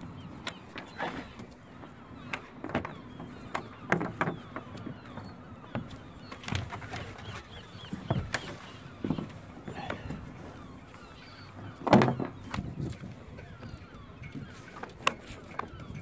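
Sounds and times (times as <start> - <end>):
bird chirping: 0.0 - 14.6
person moving on boat deck: 0.0 - 16.0.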